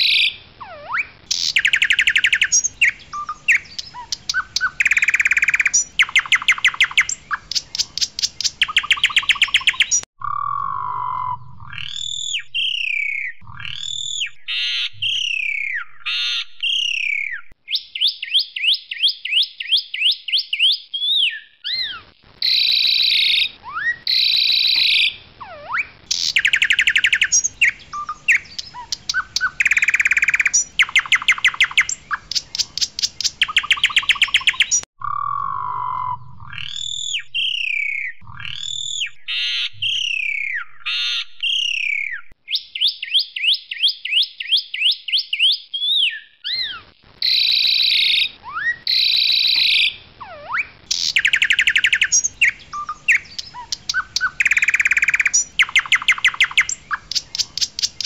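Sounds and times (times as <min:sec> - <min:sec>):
starling singing: 0:00.0 - 0:18.7, 0:20.6 - 0:42.3, 0:46.0 - 0:58.0.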